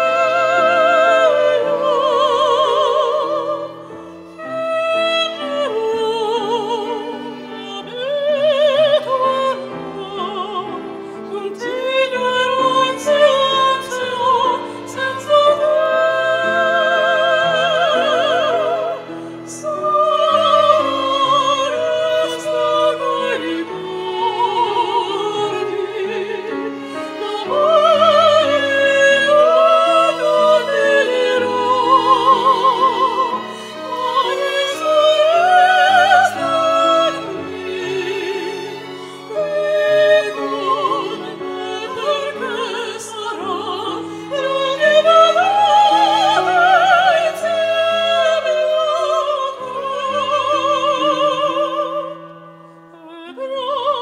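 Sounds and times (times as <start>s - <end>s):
piano: 0.0s - 54.0s
violin ensemble: 0.0s - 54.0s
woman singing operatic melody: 0.0s - 54.0s.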